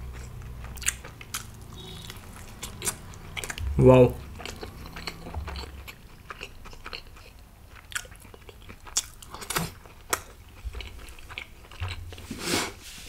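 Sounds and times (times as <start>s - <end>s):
person chewing food: 0.0s - 12.4s.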